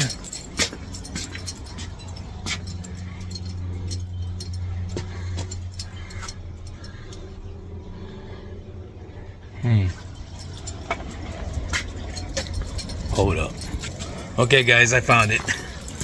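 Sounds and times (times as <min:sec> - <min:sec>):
tools clinking and knocking: 0:00.0 - 0:07.3, 0:10.0 - 0:16.0
steady low hum: 0:00.0 - 0:16.0.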